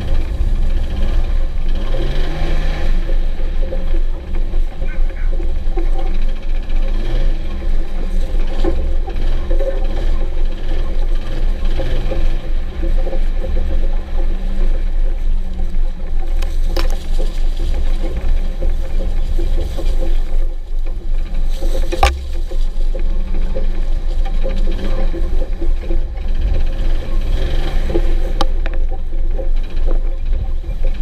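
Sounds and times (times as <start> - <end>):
car engine rumbling: 0.0 - 31.0
sharp clacks: 0.0 - 31.0.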